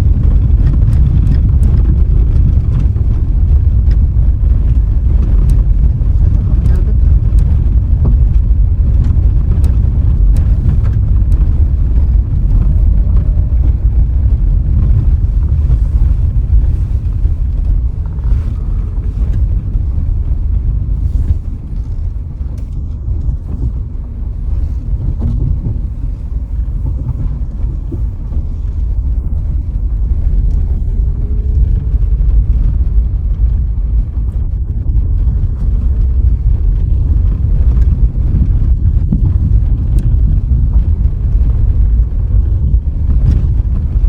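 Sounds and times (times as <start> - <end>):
car road and wind rumble: 0.0 - 44.0.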